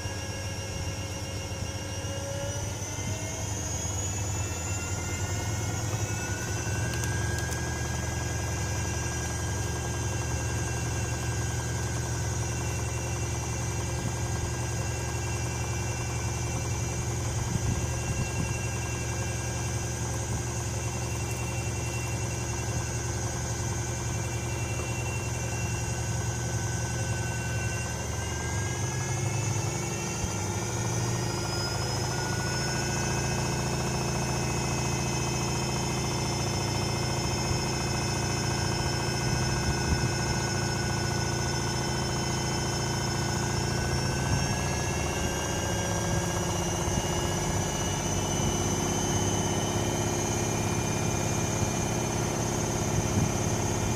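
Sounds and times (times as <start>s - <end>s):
washing machine motor whine: 0.0s - 53.9s.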